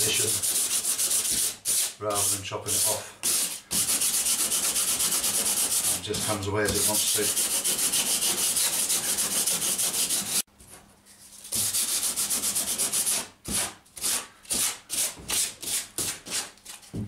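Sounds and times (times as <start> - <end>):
hand sanding fibreglass: 0.0 - 10.5, 11.4 - 16.9.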